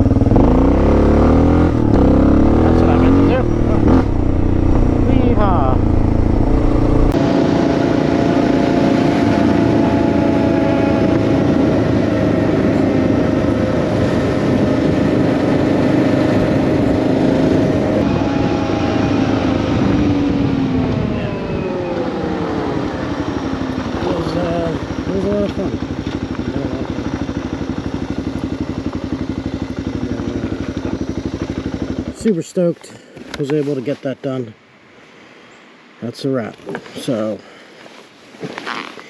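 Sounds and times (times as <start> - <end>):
motorcycle engine running: 0.0 - 32.4.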